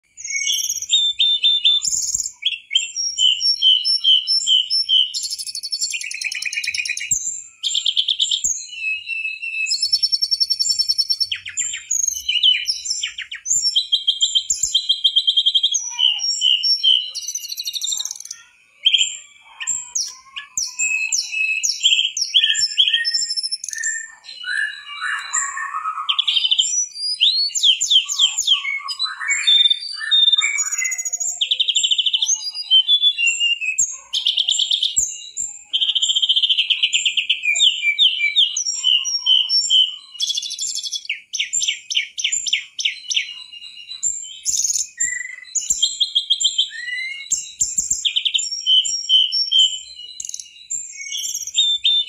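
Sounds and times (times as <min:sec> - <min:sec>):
bird singing whistles and trills: 0:00.0 - 0:52.0.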